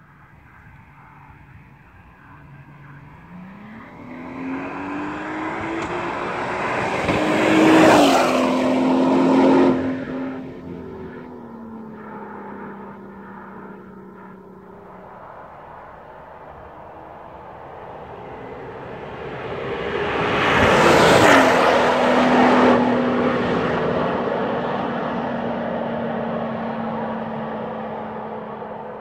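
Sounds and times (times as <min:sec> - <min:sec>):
car accelerating past: 0:02.2 - 0:29.0.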